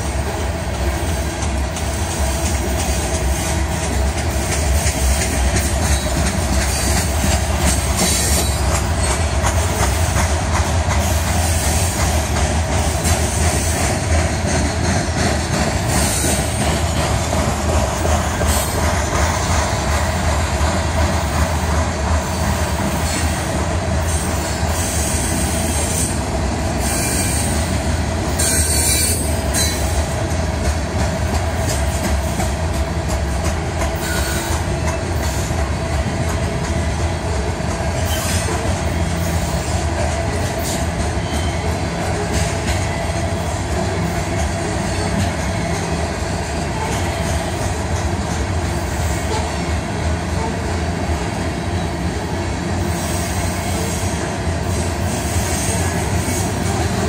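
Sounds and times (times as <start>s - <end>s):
train wheels rumbling and rattling: 0.0s - 57.0s.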